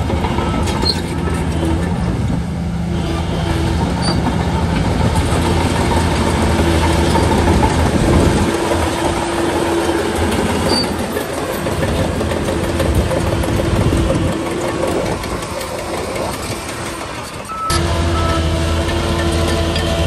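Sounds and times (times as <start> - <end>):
bulldozer diesel engine running: 0.0 - 20.0
steel tracks clattering: 0.0 - 20.0.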